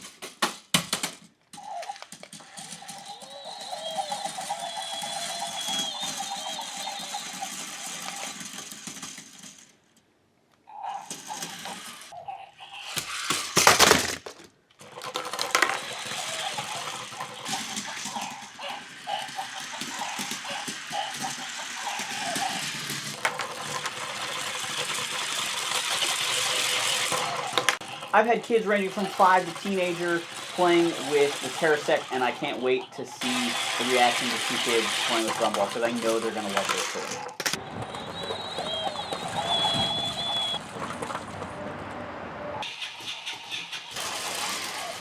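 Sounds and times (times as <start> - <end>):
plastic parts clattering: 0.0 - 10.0, 10.9 - 12.2, 12.9 - 41.5, 42.9 - 45.0
toy electric motors whirring: 0.0 - 10.0, 10.7 - 41.6, 42.6 - 45.0.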